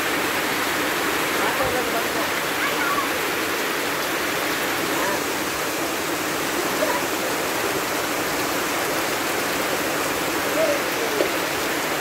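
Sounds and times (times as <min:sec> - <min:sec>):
heavy rain falling: 0:00.0 - 0:12.0
runoff pouring onto wet ground: 0:00.0 - 0:12.0.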